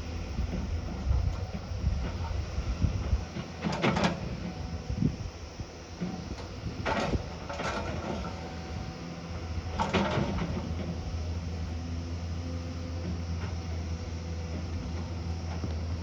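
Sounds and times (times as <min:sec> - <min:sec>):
heavy machine engine hum: 0:00.0 - 0:16.0.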